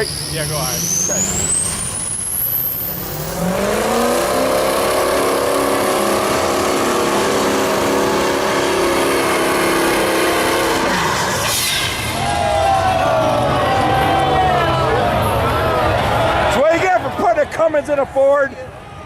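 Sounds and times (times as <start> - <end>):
truck engine revving: 0.0 - 16.5.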